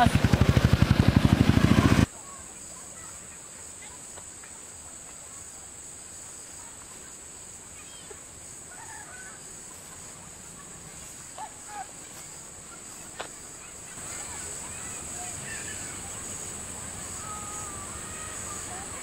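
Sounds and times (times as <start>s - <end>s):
high-pitched insect drone: 2.6s - 19.0s.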